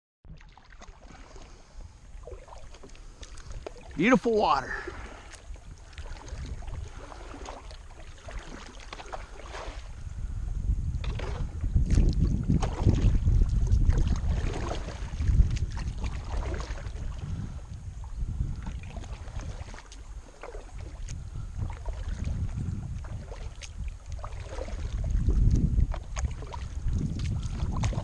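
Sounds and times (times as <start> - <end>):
paddle splashing in water: 0.3 - 28.0
wind rumble on microphone: 4.7 - 28.0.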